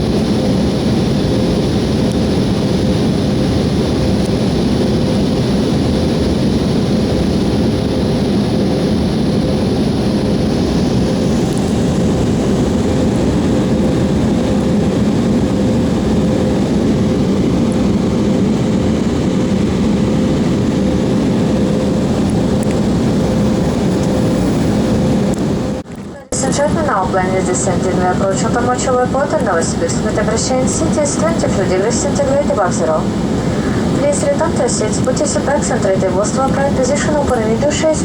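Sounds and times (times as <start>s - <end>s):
airliner cabin engine rush: 0.0s - 38.0s
constant hum: 0.0s - 38.0s.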